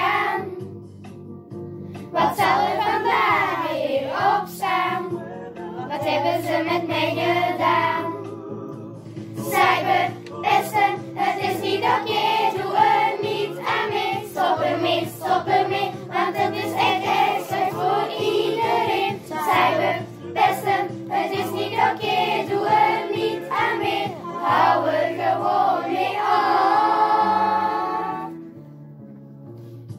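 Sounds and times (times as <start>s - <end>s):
children singing in unison: 0.0s - 0.5s, 2.2s - 5.1s, 5.8s - 8.4s, 9.4s - 28.3s
pop backing track: 0.0s - 28.8s.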